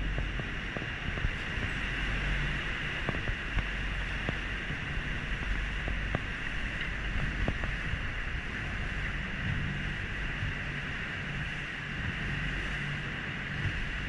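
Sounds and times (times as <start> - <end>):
boat motor running: 0.0 - 14.0
water hissing along hull: 0.0 - 14.0.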